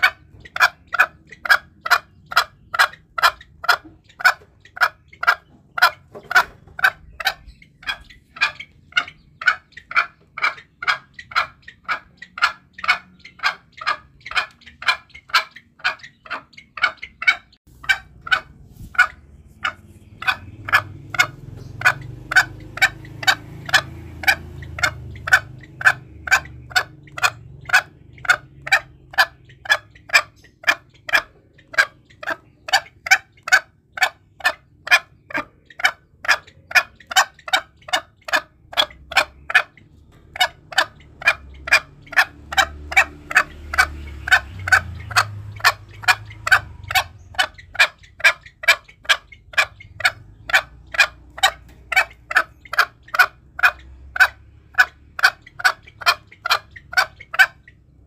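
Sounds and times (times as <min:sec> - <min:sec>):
junglefowl calling: 0:00.0 - 0:58.0.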